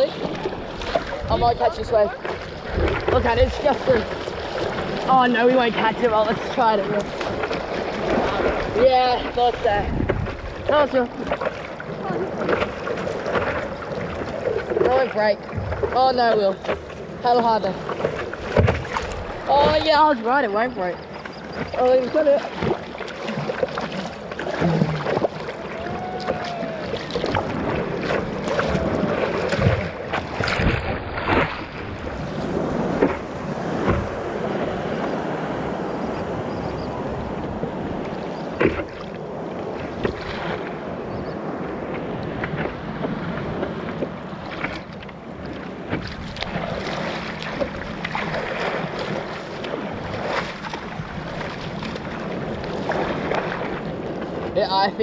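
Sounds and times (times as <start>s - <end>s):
water splashing around surfboard: 0.0s - 55.0s
wind buffeting microphone: 0.0s - 55.0s.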